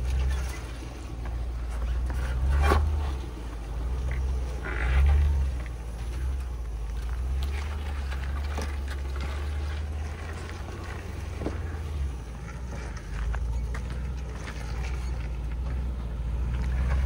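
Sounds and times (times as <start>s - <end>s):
car engine low drone: 0.0s - 17.0s.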